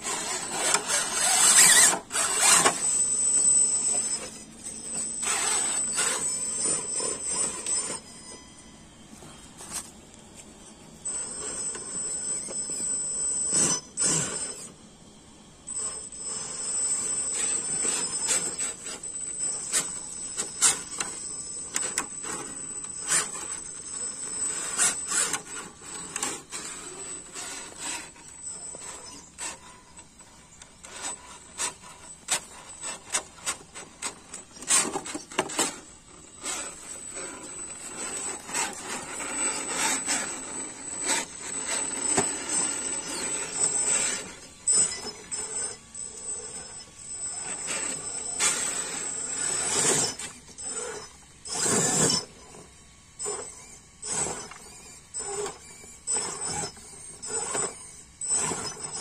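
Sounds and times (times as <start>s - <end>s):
electric drivetrain grinding: 0.0s - 59.0s.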